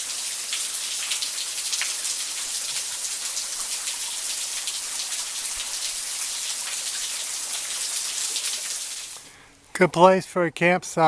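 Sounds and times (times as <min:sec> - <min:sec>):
raindrops pattering: 0:00.0 - 0:09.8.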